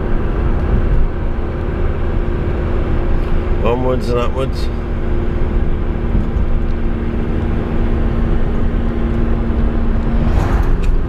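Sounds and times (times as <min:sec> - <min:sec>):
car engine drone: 0:00.0 - 0:11.0
road noise rumble: 0:00.0 - 0:11.0.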